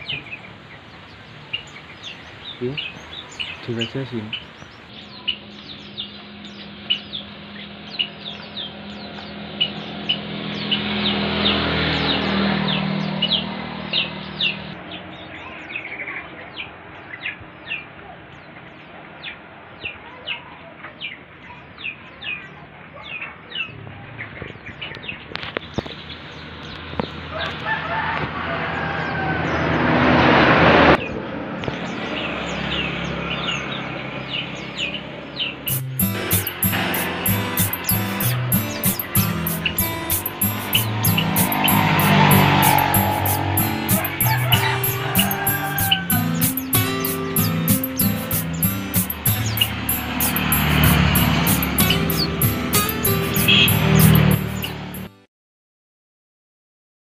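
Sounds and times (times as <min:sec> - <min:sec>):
caged birds chirping: 0:00.0 - 0:27.3, 0:31.0 - 0:55.1.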